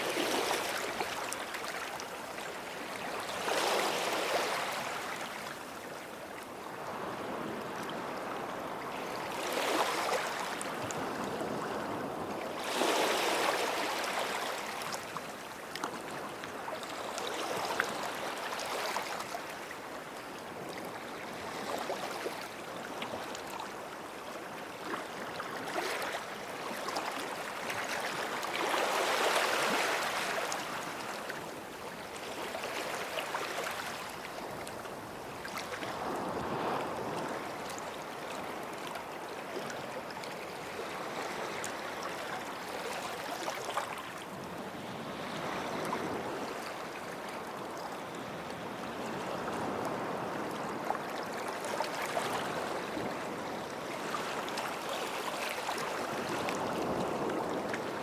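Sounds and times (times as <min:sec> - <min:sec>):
small waves breaking on shore: 0:00.0 - 0:58.0.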